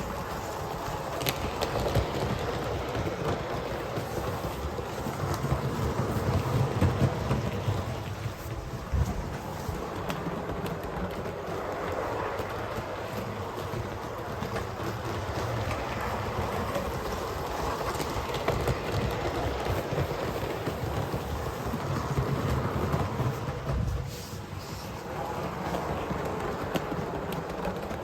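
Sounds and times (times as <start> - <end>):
model train motor and wheels rumbling: 0.0 - 28.0.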